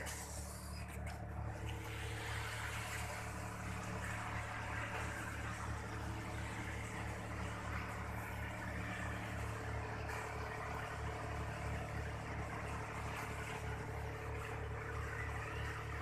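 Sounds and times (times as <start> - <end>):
engine idling with low throb: 0.0 - 16.0.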